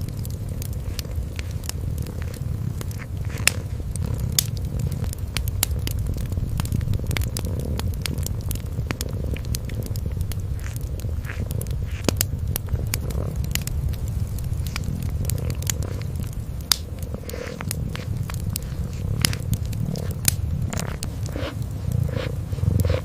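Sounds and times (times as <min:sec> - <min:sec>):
cat purring: 0:00.0 - 0:23.0
wood fire crackling and popping: 0:00.0 - 0:23.0.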